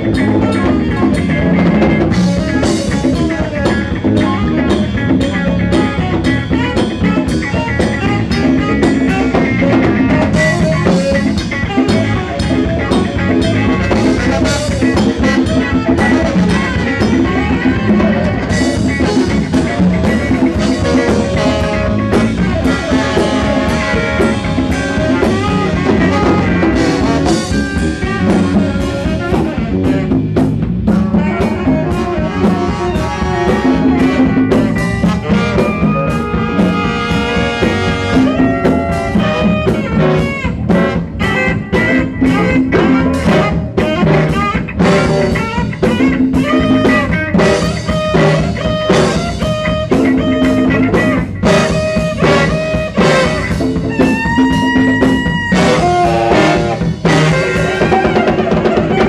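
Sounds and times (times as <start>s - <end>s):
brass horns: 0.0s - 59.0s
drum kit beat: 0.0s - 59.0s
trombone: 0.0s - 59.0s.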